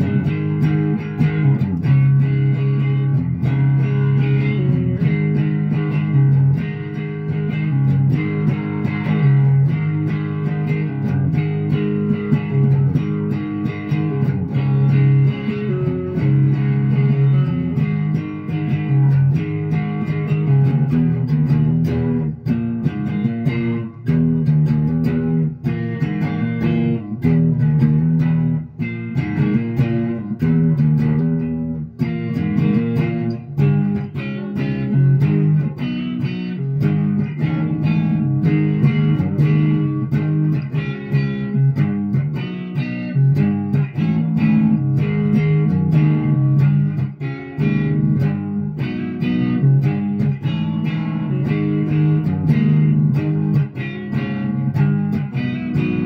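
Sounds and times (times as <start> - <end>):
electric guitar chords: 0.0 - 56.0.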